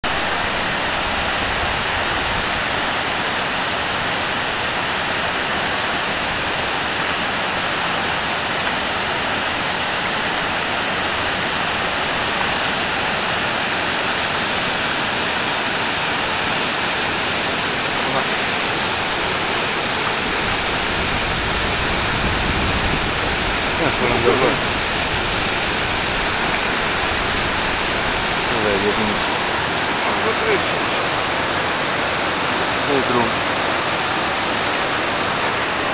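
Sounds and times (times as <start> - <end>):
river water rushing over weir: 0.0 - 35.9.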